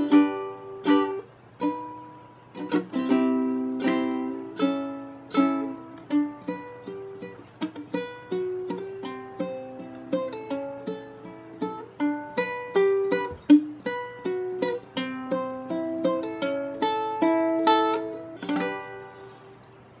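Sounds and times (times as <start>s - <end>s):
plucked string melody: 0.0s - 19.7s.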